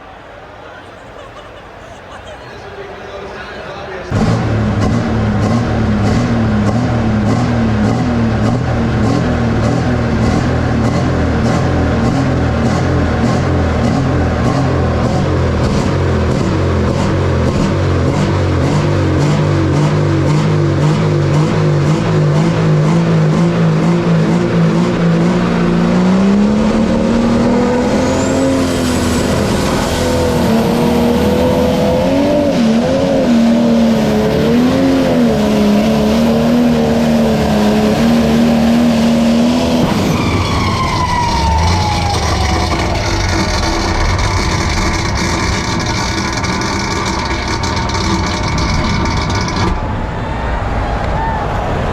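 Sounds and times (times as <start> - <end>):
tractor engine at full throttle: 3.8 - 50.1.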